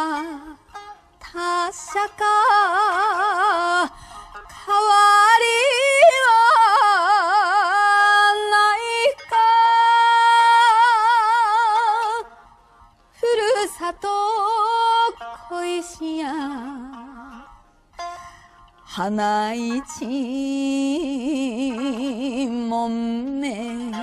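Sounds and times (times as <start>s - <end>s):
woman singing with slow vibrato: 1.2s - 4.0s, 4.6s - 12.3s, 13.2s - 17.5s, 18.9s - 24.0s.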